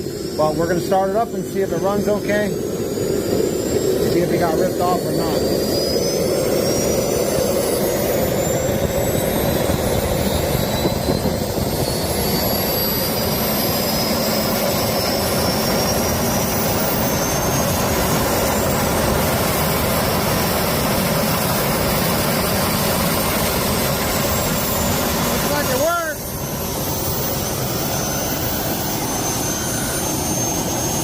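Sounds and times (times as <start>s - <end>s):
high turbine whine: 0.0s - 31.0s
jet engine rushing noise: 0.0s - 31.0s.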